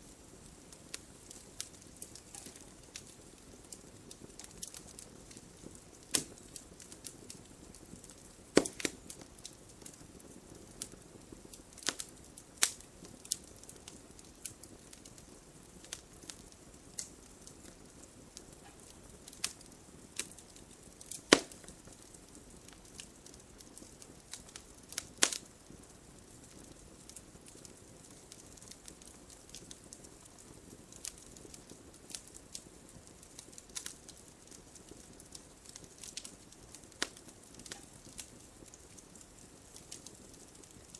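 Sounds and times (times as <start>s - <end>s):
soft steady hiss: 0.0s - 40.9s
wood fire crackling: 0.0s - 40.9s
sharp fire pops: 0.3s - 40.9s.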